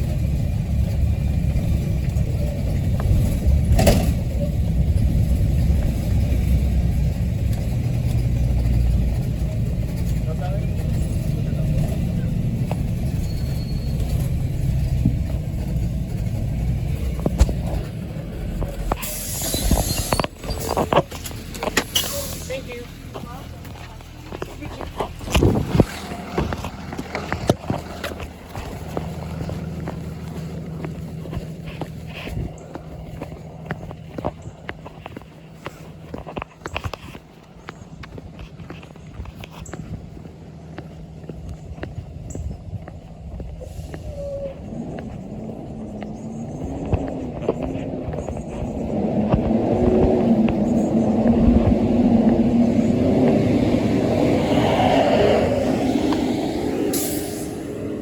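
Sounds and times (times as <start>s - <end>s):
interior rattles and clicks: 0.0s - 54.6s
bus engine rumbling: 0.0s - 58.0s.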